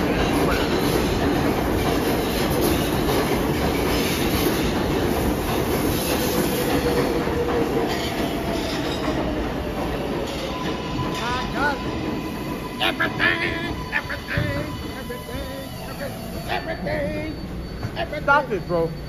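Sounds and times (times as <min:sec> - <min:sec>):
train wheels clattering and squealing: 0:00.0 - 0:19.0.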